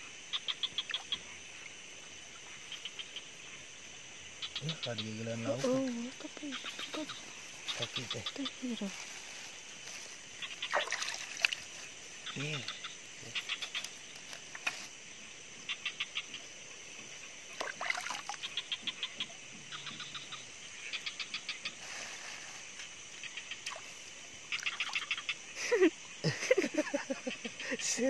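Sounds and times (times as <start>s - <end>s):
frogs pulsed calls: 0.0s - 28.0s
high insect hum: 0.0s - 28.0s.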